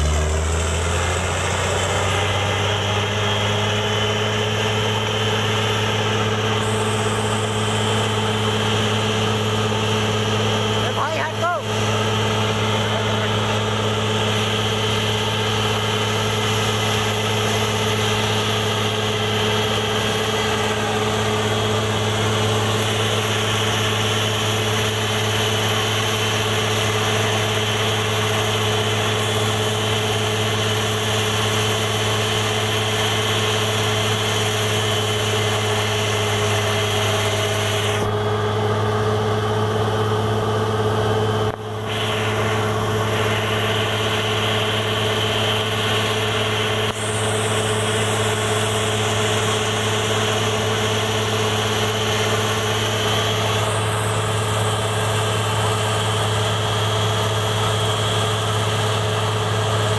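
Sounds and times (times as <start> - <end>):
drilling rig engine drone: 0.0 - 59.9.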